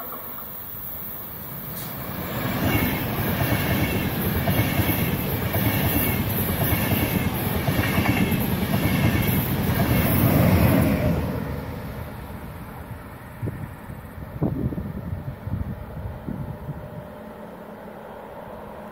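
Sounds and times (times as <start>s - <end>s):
train passing at speed: 0.0s - 18.9s.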